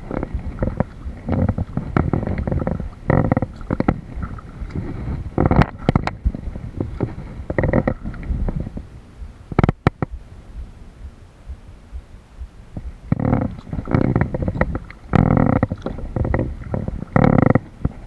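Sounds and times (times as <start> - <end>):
paddle splashing water: 0.0 - 9.9, 13.1 - 18.0.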